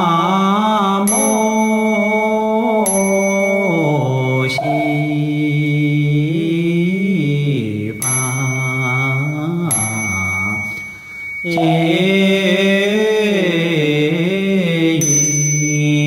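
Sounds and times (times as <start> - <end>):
person chanting: 0.0 - 16.0
faint steady high tone: 0.4 - 16.0.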